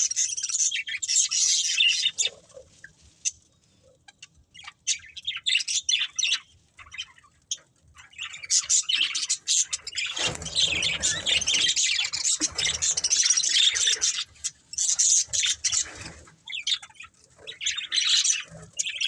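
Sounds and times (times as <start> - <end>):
budgerigars chirping and chattering: 0.0 - 19.0.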